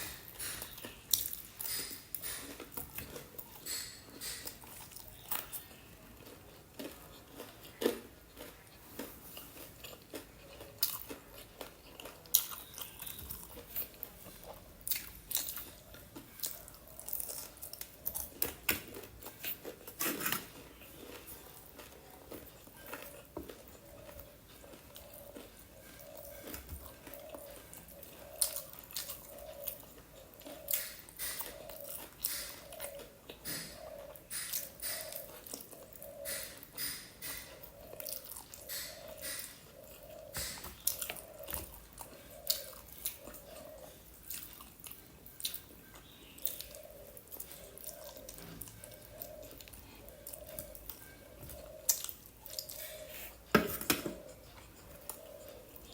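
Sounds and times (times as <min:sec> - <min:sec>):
crunching fried food: 0:00.0 - 0:53.5
wet chewing: 0:00.0 - 0:53.5.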